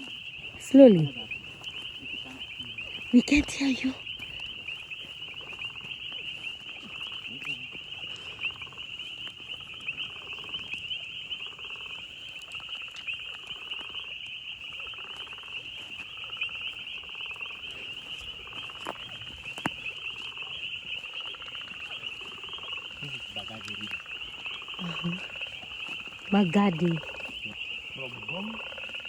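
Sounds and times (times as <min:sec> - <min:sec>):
frog pulsed calls: 0:00.0 - 0:29.0
frogs trilling: 0:00.0 - 0:29.0.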